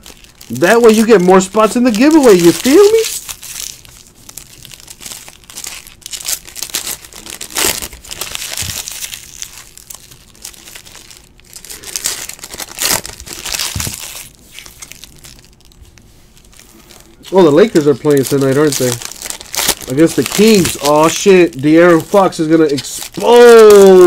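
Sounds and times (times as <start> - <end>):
foil wrappers crinkling and tearing: 0.0 - 24.0.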